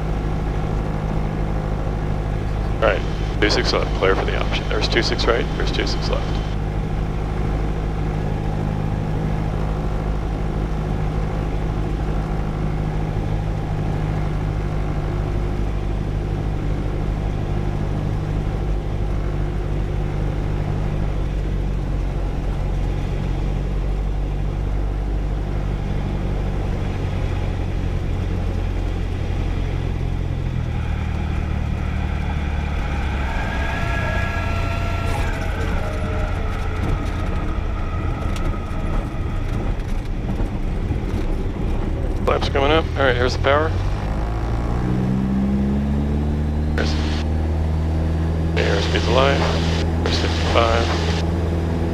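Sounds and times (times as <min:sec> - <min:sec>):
light aircraft engine running: 0:00.0 - 0:51.9.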